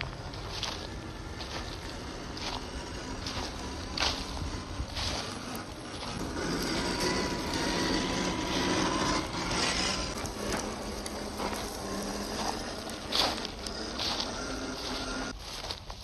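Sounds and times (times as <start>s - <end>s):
electric motor whine: 0.0s - 15.4s
tyres crackling over leaves: 0.0s - 16.0s.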